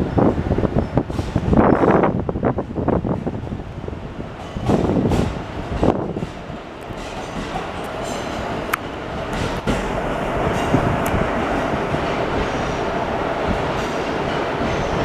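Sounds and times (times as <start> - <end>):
electric train running rumble: 0.0 - 15.0.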